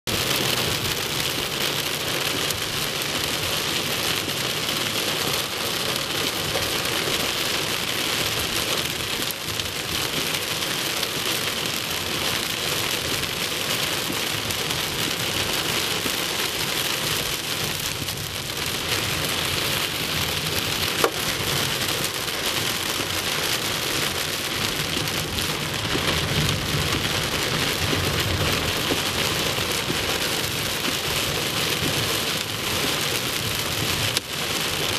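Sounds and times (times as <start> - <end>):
heavy rain drumming on car roof: 0.0 - 34.9.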